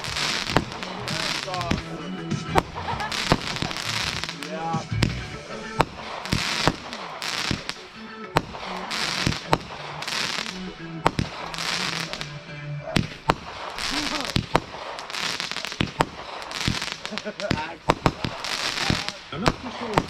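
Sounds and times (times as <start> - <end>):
crackling hiss of fireworks: 0.0 - 12.4, 13.0 - 20.0
fireworks bangs: 0.0 - 20.0.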